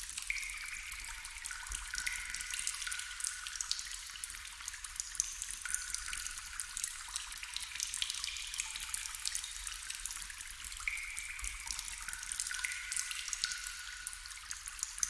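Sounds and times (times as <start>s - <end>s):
water drips and splashes: 0.0s - 15.0s
water trickling: 0.0s - 15.0s.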